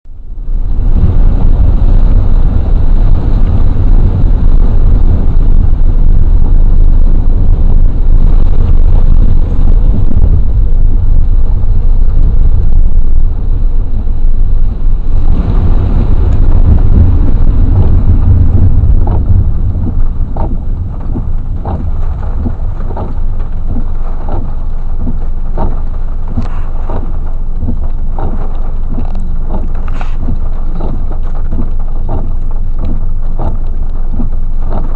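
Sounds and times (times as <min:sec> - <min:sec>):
low rumble: 0:00.0 - 0:34.9
rain falling: 0:00.1 - 0:34.9.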